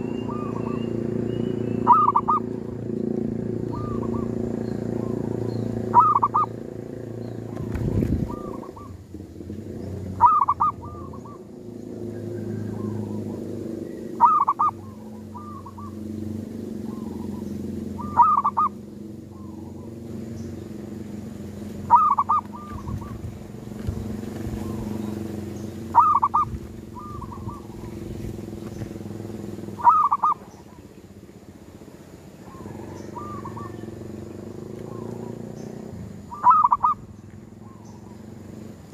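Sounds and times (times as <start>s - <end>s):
dove cooing: 0.0s - 1.2s, 1.8s - 6.7s, 7.5s - 9.2s, 9.8s - 16.1s, 16.7s - 20.2s, 21.8s - 31.0s, 32.4s - 38.4s
steady low hum: 0.0s - 38.9s.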